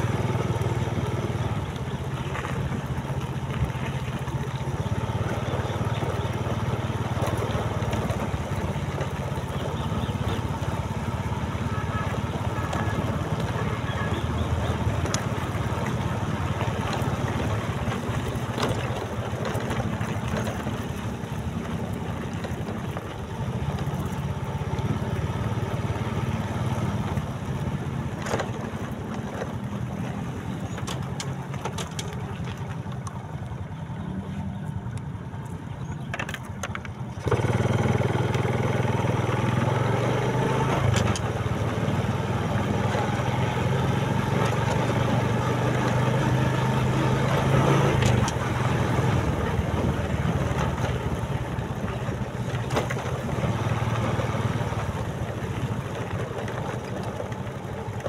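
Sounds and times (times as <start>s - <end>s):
motorcycle engine running: 0.0s - 58.0s
tyres crunching on wet gravel: 0.0s - 58.0s.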